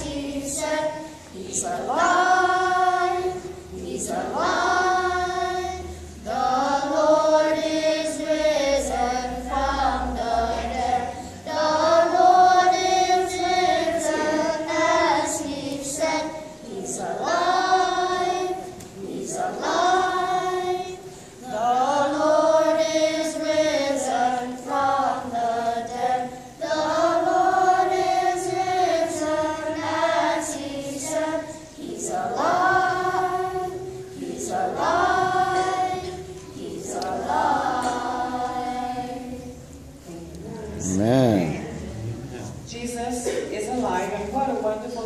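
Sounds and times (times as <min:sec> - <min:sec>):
children's choir singing a hymn: 0:00.0 - 0:45.0.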